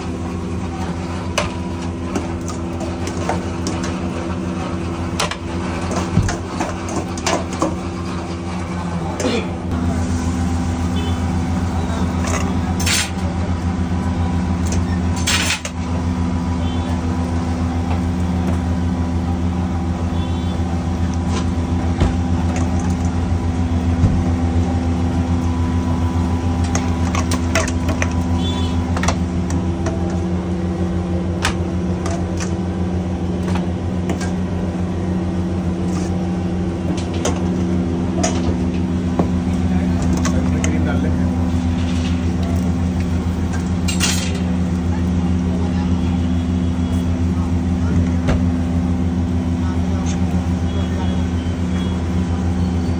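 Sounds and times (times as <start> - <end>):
low machine hum: 0.0 - 52.9.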